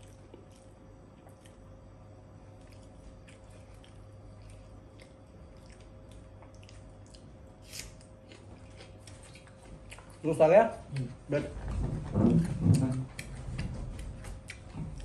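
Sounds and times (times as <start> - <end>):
wet squishing and chewing: 0.0 - 11.4, 12.2 - 15.0
steady hum: 0.0 - 15.0.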